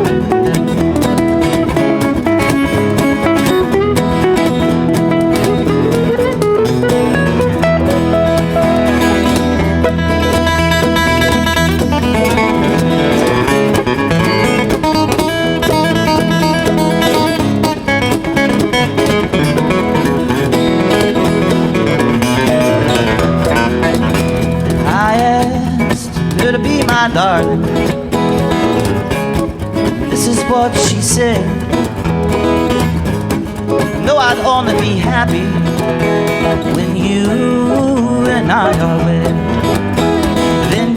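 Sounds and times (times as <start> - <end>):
cajon beat: 0.0 - 40.9
lead acoustic guitar picking: 0.0 - 40.9
strummed rhythm guitars: 0.0 - 40.9.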